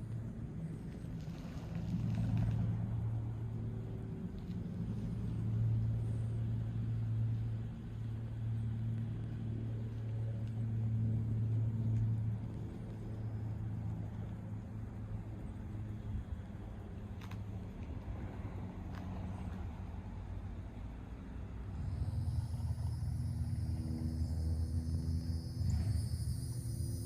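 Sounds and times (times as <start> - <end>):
engine running low hum: 0.0 - 27.0.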